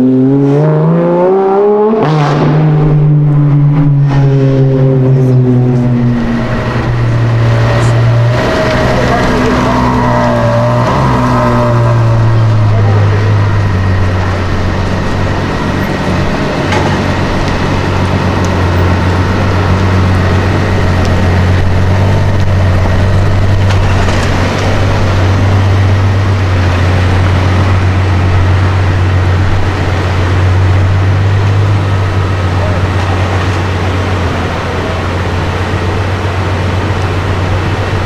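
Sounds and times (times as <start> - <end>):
street noise: 0.0 - 38.0
vehicle engine idling: 2.8 - 38.0.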